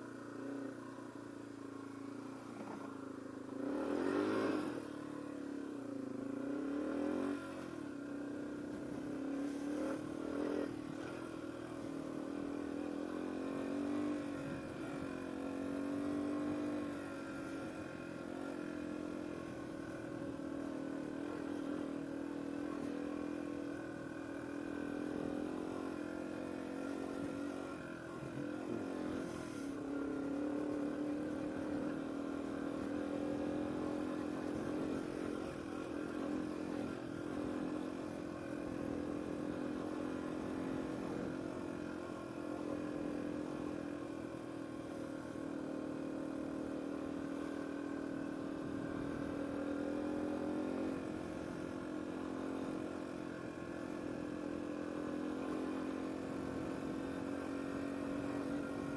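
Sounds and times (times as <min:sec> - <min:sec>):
motorcycle engine at light throttle: 0:00.0 - 0:58.9.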